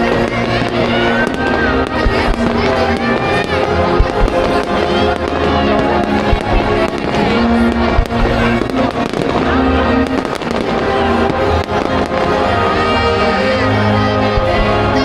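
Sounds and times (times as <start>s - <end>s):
fireworks bangs and crackles: 0.0s - 15.0s
loud music: 0.0s - 15.0s.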